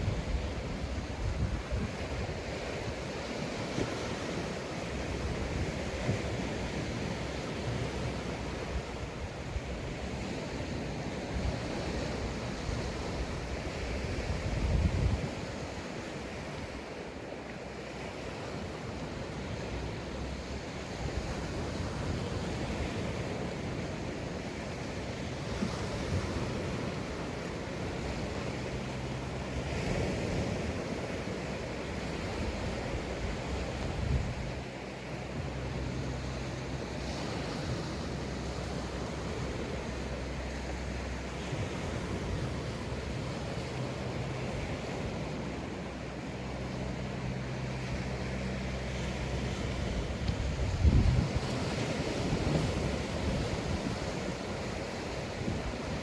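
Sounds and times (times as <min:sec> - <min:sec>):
wind buffeting microphone: 0:00.0 - 0:17.0, 0:17.9 - 0:56.0
sea waves breaking on beach: 0:00.0 - 0:56.0.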